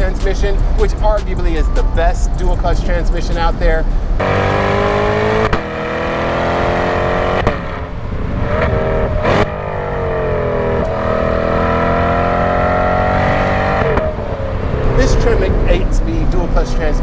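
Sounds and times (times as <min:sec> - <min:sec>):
car engine revving: 0:00.0 - 0:17.0
exhaust crack on upshift: 0:02.5 - 0:17.0.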